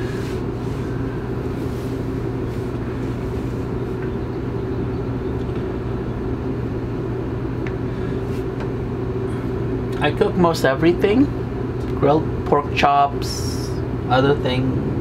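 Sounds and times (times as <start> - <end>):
microwave humming: 0.0 - 15.0.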